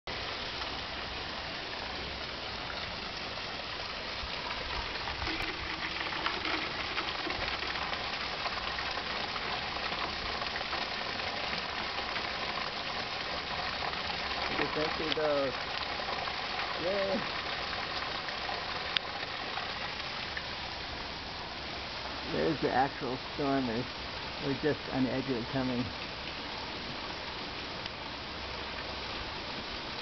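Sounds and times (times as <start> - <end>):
steady rain hiss: 0.1 - 30.0.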